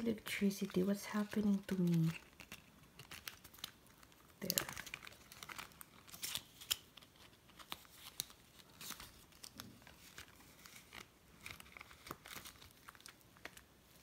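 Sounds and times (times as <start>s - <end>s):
paper and plastic crinkling: 0.0s - 14.0s.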